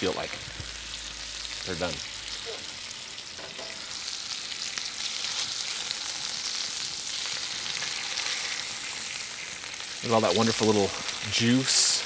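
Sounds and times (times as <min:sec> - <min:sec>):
fat sizzling in a skillet: 0:00.0 - 0:12.0.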